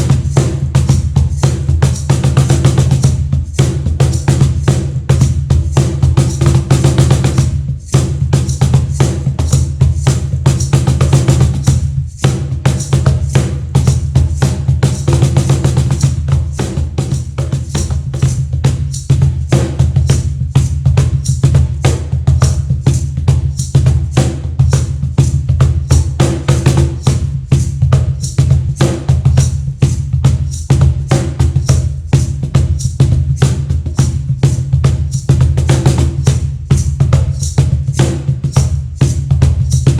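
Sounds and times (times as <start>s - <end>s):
cajon played by hand: 0.0s - 39.9s.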